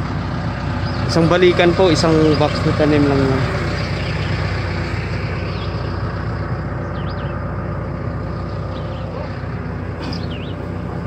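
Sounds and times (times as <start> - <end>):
tractor engine running under load: 0.0 - 11.0
bird chirping: 0.7 - 11.0.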